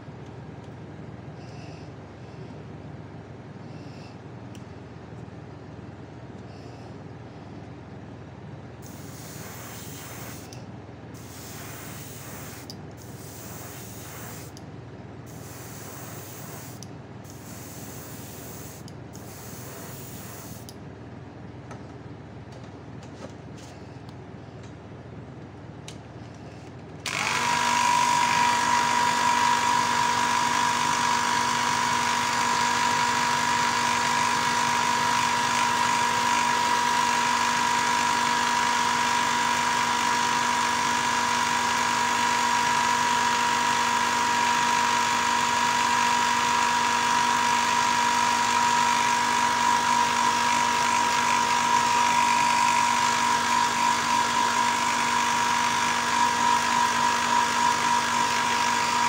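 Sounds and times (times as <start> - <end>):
air compressor humming and hissing: 0.0 - 4.9, 8.7 - 21.1, 25.9 - 59.0.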